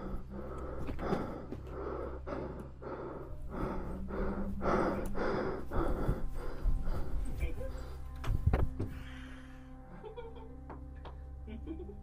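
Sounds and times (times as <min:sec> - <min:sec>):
person breathing heavily: 0:00.0 - 0:09.9
low steady hum: 0:00.0 - 0:12.0.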